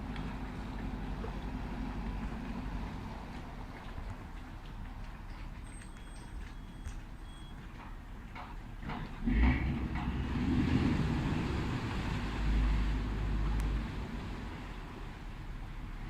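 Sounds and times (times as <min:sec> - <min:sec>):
ship engine rumbling: 0:00.0 - 0:16.0.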